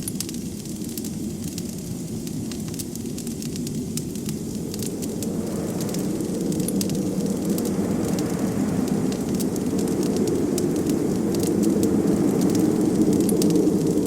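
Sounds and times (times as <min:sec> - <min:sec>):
wood fire crackling: 0:00.0 - 0:14.0
blizzard wind rushing: 0:00.1 - 0:14.0.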